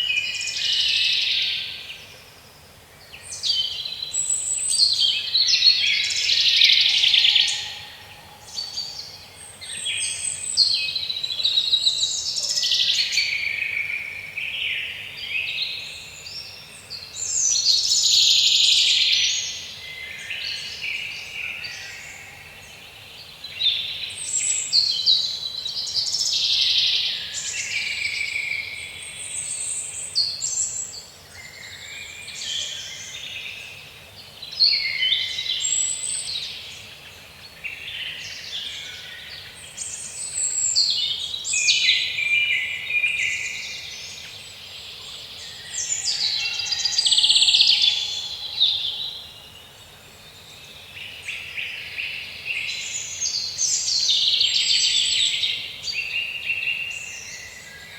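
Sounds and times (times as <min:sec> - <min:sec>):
songbirds singing and chirping: 0:00.0 - 0:57.9.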